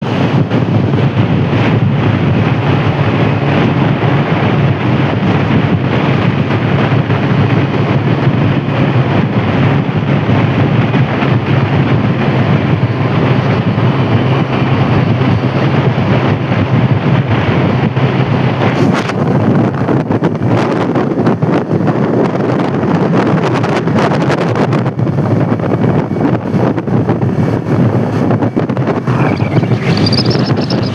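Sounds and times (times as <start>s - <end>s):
highway traffic roar: 0.0s - 30.9s
wind buffeting microphone: 0.0s - 30.9s.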